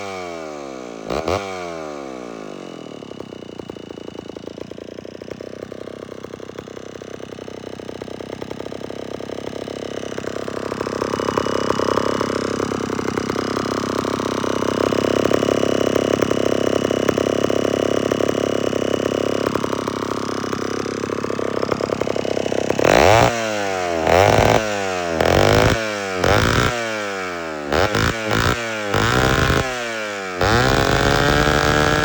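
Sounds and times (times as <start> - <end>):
chainsaw engine running: 0.0 - 32.0.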